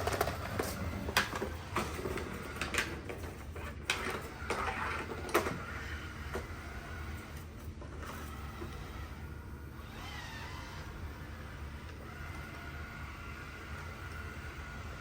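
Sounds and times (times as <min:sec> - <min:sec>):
robot vacuum humming: 0:00.0 - 0:15.0.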